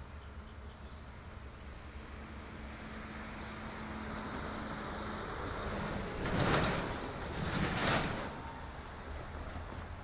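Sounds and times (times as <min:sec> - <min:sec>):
diesel locomotive engines rumbling: 0:00.0 - 0:10.0.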